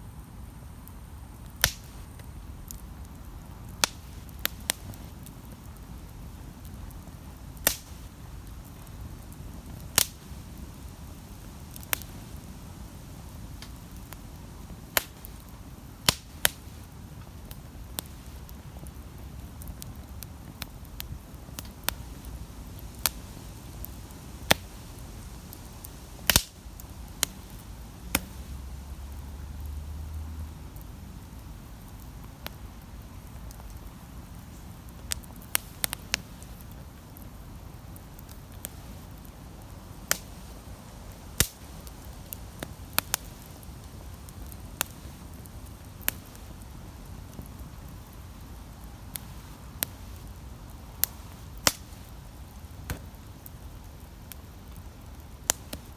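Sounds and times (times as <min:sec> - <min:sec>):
campfire crackling and popping: 0:00.0 - 0:55.9
low rumble of fire: 0:00.0 - 0:55.9.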